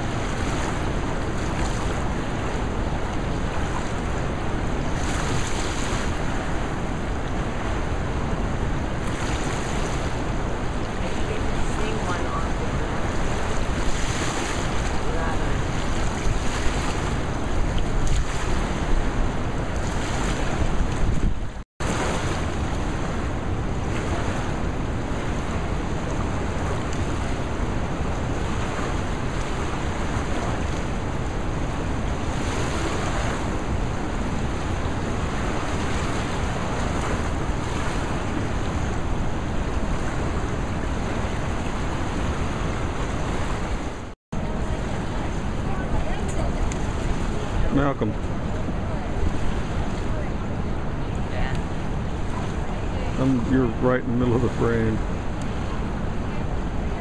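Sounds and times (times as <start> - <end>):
rushing whitewater roar: 0.0 - 57.0
wind buffeting microphone: 0.0 - 57.0.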